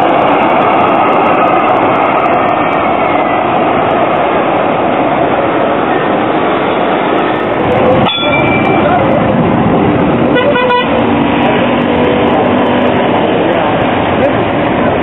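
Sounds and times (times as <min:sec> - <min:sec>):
city street noise: 0:00.0 - 0:15.0
tram passing: 0:00.0 - 0:15.0.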